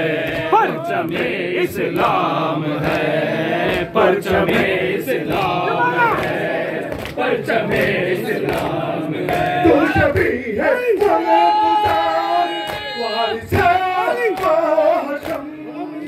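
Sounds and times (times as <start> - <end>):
voices singing a lament: 0.0 - 16.0.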